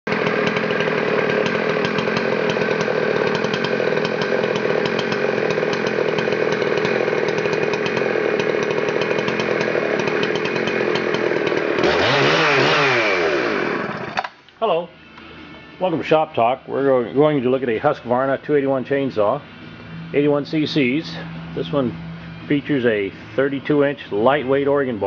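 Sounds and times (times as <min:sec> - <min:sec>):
chainsaw running: 0:00.1 - 0:14.4, 0:15.4 - 0:25.0.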